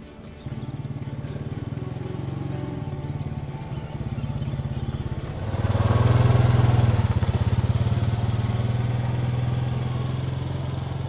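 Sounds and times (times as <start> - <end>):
quad bike engine: 0.0 - 11.0.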